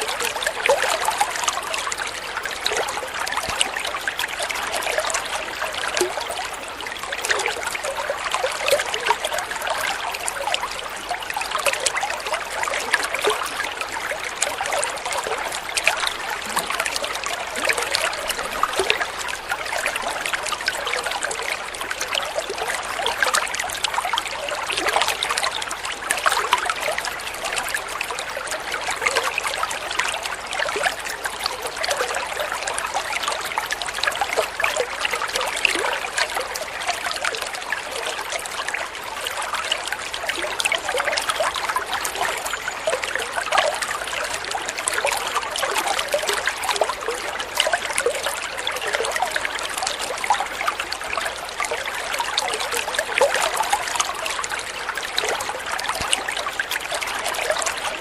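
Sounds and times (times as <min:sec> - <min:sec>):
small water splashes and gurgles: 0:00.0 - 0:58.0
water flowing and trickling: 0:00.0 - 0:58.0.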